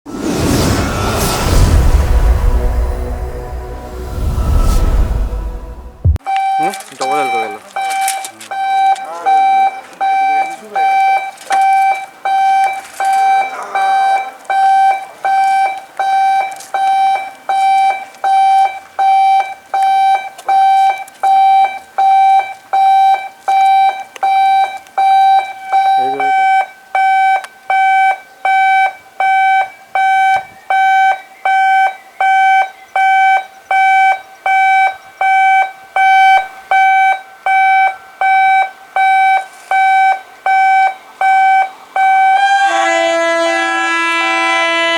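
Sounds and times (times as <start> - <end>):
electronic alarm beeping: 6.1 - 43.4.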